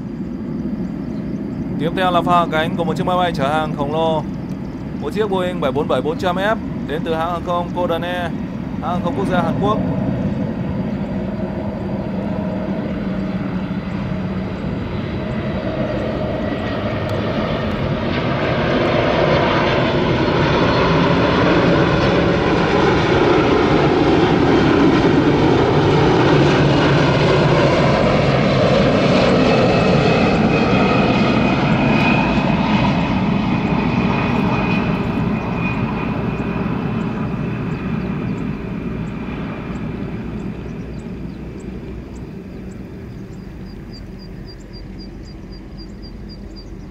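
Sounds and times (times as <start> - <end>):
high engine whine: 0.0 - 46.9
jet engines rumbling: 0.0 - 46.9.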